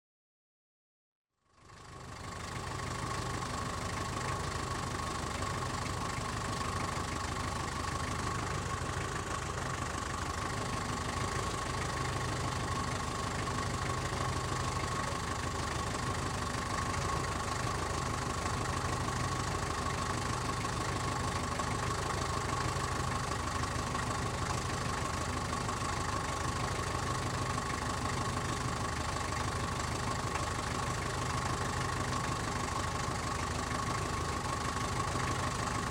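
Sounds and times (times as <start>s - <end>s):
car engine idling: 1.5s - 35.9s.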